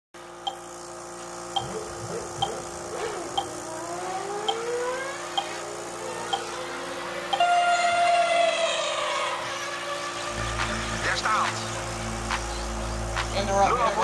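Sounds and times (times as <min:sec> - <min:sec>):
remote control car motors whining: 0:01.5 - 0:14.0.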